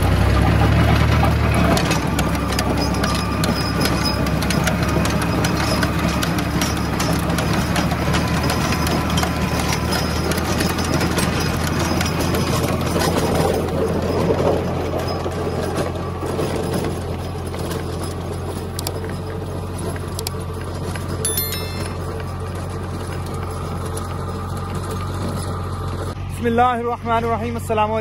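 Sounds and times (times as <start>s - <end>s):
tractor engine droning: 0.0s - 27.9s.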